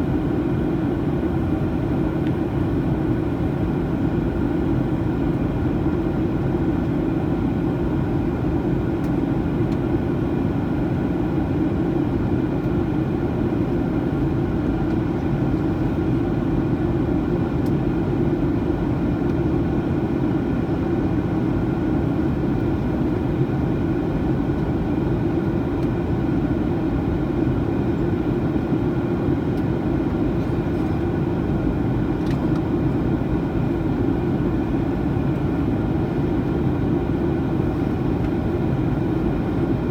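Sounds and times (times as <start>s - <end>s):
airflow rush in cabin: 0.0s - 39.9s.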